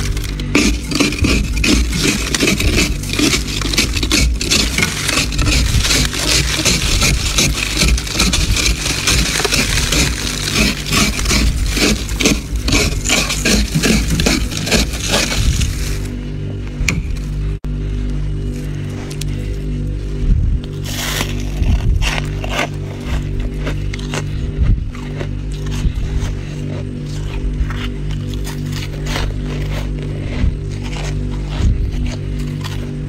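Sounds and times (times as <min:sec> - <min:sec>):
freezer frost being scraped: 0:00.0 - 0:16.2, 0:20.8 - 0:33.0.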